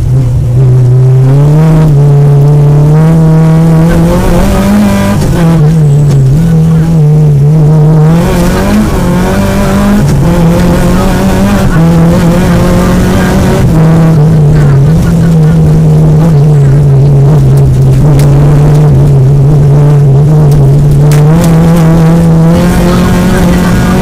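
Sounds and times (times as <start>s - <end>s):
car engine revving through gears: 0.0s - 24.0s.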